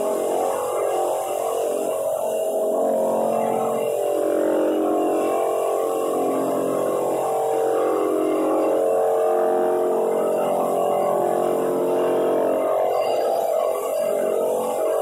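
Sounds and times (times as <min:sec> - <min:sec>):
floor drum sander: 0:00.0 - 0:15.0
shop vacuum running: 0:00.0 - 0:15.0.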